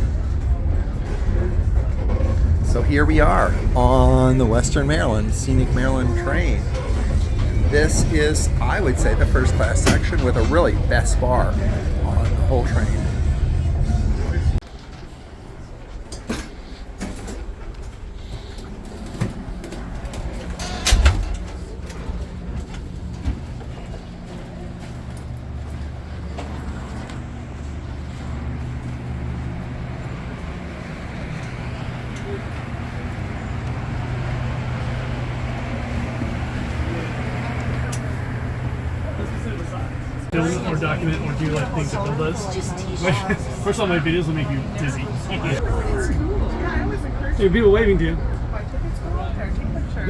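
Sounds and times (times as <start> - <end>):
train car rumbling on track: 0.0 - 50.0.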